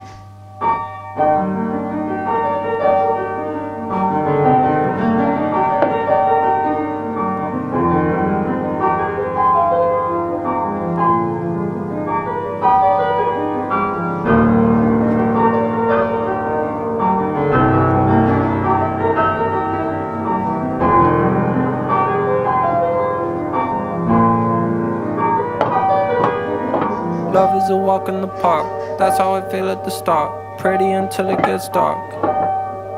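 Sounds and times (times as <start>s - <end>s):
slow piano chords: 0.0s - 32.9s.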